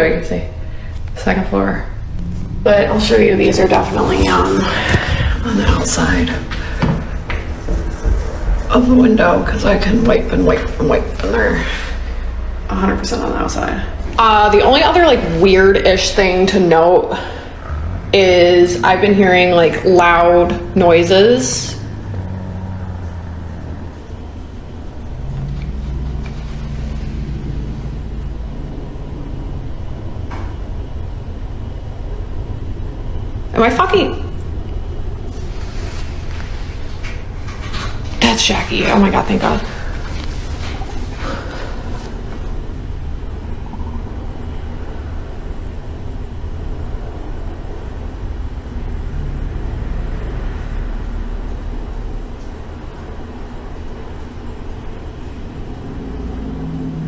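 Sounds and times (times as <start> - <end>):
low steady rumble: 0.0 - 57.0.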